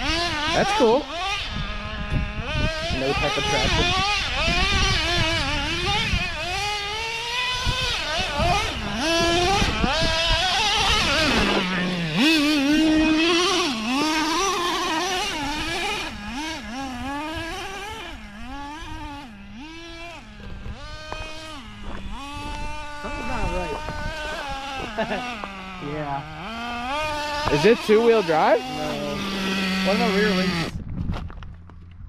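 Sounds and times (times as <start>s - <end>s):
rc car motor revving: 0.0s - 30.8s.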